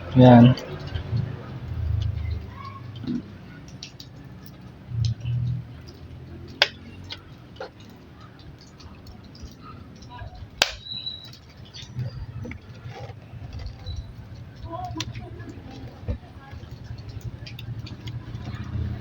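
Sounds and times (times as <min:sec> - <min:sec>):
low background murmur: 0:00.0 - 0:19.0
sharp plastic clicks: 0:00.0 - 0:19.0.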